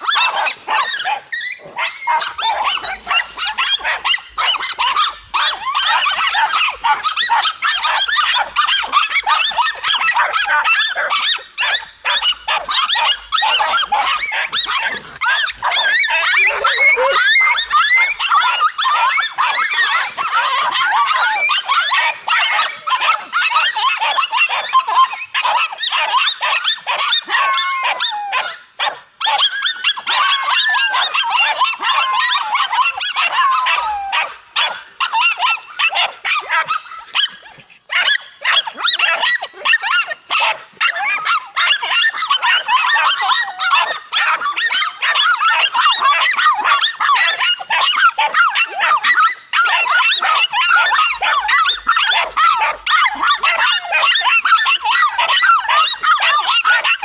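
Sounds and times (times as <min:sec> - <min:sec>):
dogs barking and yipping: 0:00.0 - 0:57.0
dogs whining: 0:00.0 - 0:57.0.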